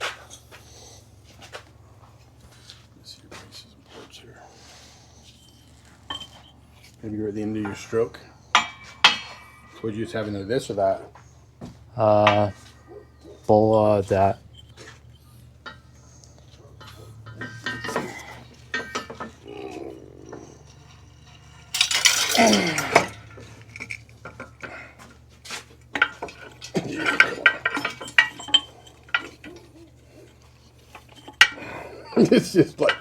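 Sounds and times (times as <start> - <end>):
scraping rattle: 2.4 - 33.0
metal tools clinking and rattling: 4.6 - 33.0.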